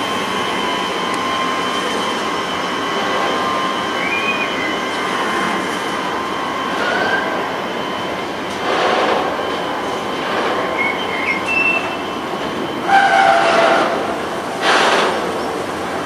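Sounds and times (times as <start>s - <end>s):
wheels rumbling on rail: 0.0s - 16.0s
high wavering wheel squeals: 0.4s - 8.4s, 9.2s - 14.3s.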